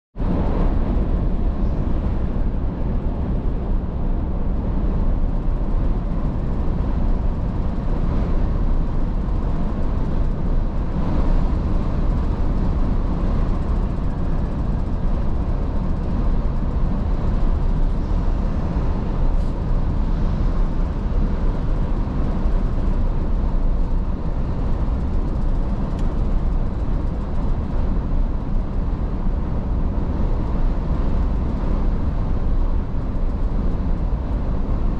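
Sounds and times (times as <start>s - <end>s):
road noise: 0.2s - 34.9s
truck diesel engine rumble: 0.2s - 34.9s.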